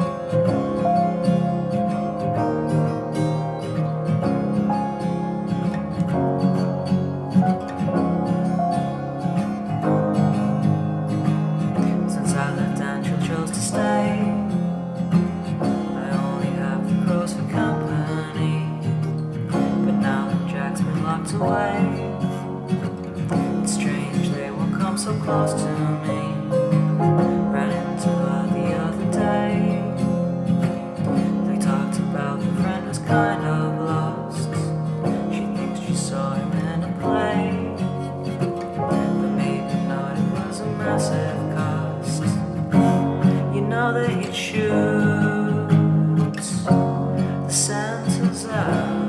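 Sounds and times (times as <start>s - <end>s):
strummed acoustic guitar music: 0.0s - 49.0s.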